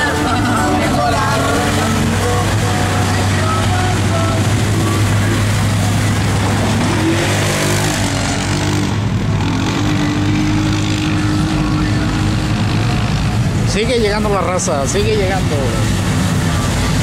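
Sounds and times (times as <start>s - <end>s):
off-road engines revving: 0.0s - 17.0s.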